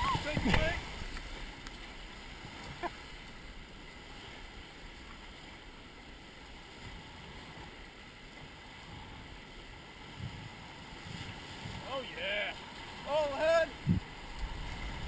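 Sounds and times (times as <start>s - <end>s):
river water rushing: 0.0s - 15.0s
wind: 0.0s - 15.0s.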